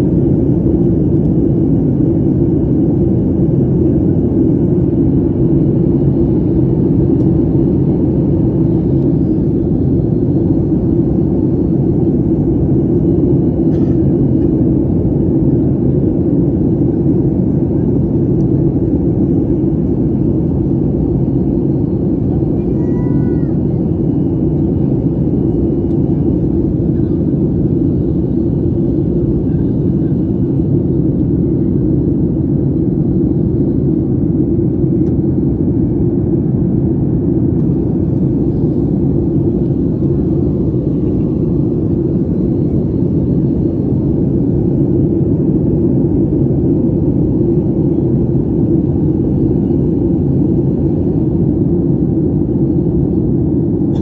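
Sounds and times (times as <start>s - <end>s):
jet cabin engine rumble: 0.0s - 54.0s.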